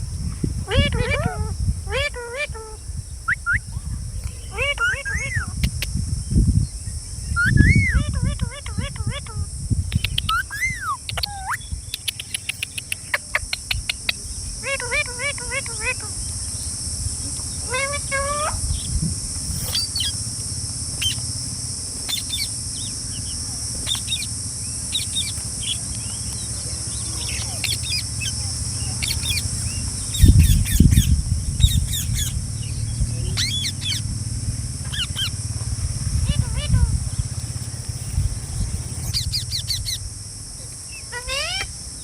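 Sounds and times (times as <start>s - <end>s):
high-pitched insect drone: 0.0s - 42.0s
parrots chirping: 0.6s - 6.0s, 7.2s - 20.3s, 20.9s - 21.4s, 22.0s - 40.1s, 40.9s - 41.8s.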